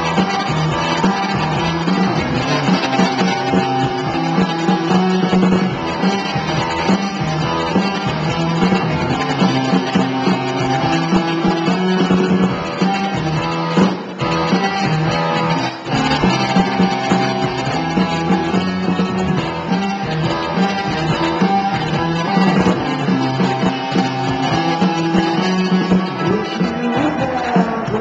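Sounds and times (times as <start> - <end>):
electric guitars: 0.0 - 28.0
live rock band: 0.0 - 28.0.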